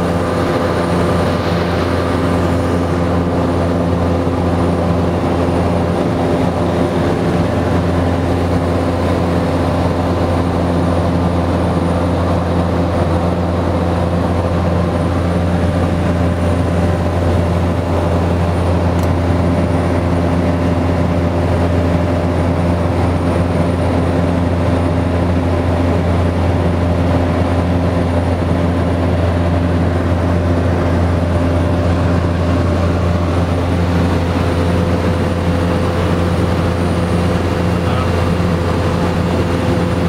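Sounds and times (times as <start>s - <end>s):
turboprop engine drone: 0.0s - 40.0s.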